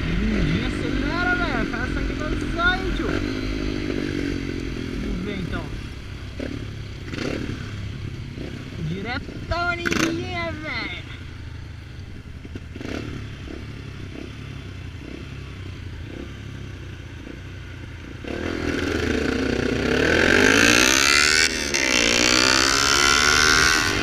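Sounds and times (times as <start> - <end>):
motorcycle idling and accelerating: 0.0 - 24.0.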